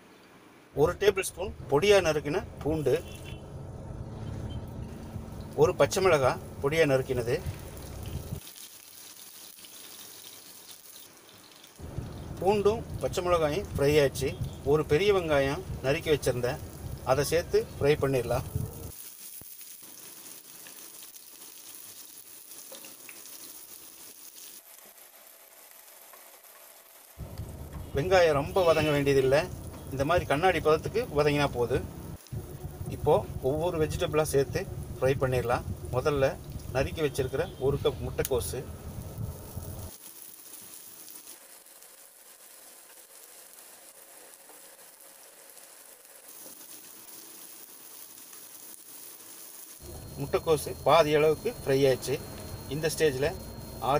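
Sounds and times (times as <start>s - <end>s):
vegetables sizzling in oil: 4.7s - 53.9s.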